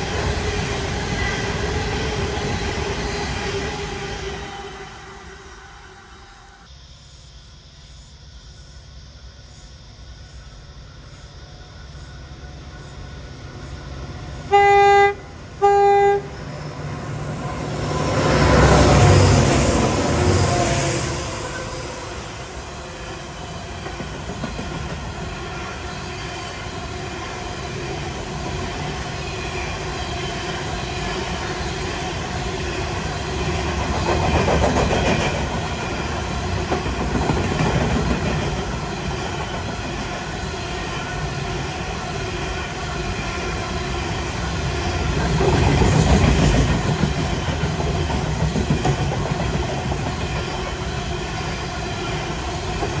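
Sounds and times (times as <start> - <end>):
train wheels rumbling on rail: 0.0 - 6.7, 9.2 - 53.0.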